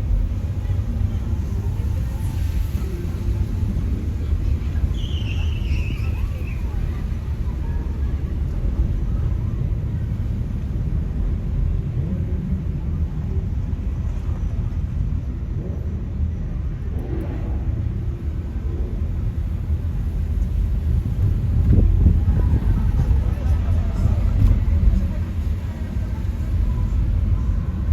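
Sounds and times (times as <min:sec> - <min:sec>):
street traffic rumble: 0:00.0 - 0:27.9.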